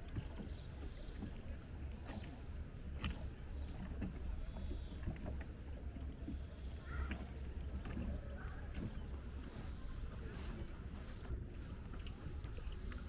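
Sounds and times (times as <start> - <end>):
small waves lapping against boats: 0.0 - 13.0.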